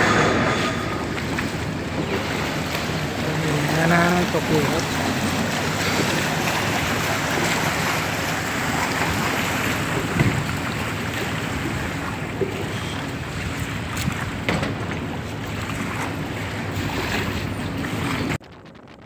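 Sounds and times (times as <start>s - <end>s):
water rushing past hull: 0.0s - 18.4s
motorboat engine running: 0.0s - 19.0s
wind buffeting microphone: 0.0s - 19.0s.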